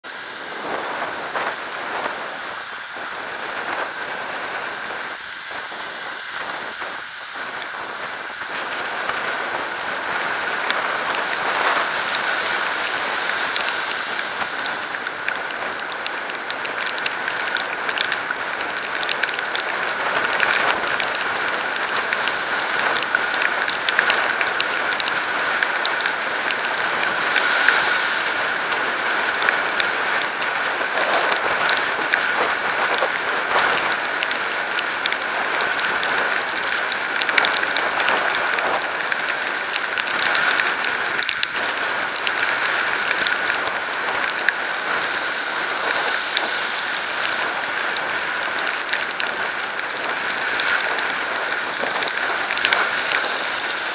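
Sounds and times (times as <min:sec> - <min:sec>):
hiss of rain and road spray: 0:00.1 - 0:53.9.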